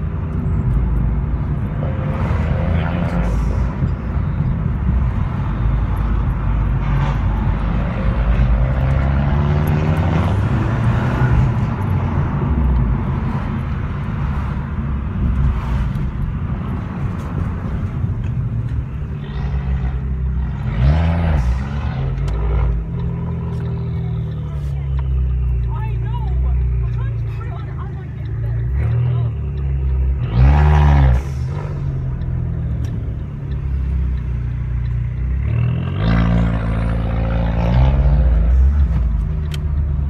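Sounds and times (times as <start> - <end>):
car engine: 0.0 - 40.0
road noise: 0.0 - 40.0.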